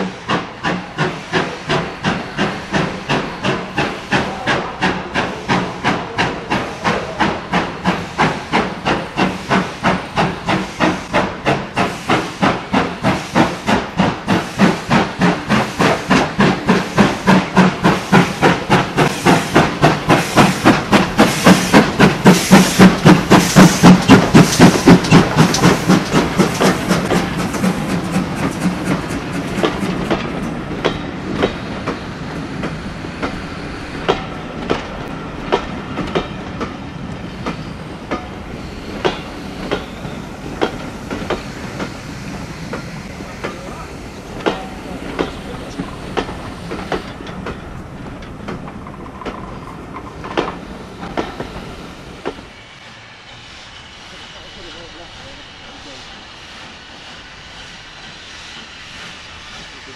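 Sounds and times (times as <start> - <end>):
train wheels clicking over rail joints: 0.0 - 52.6
steam locomotive exhaust chuffing: 0.0 - 59.9.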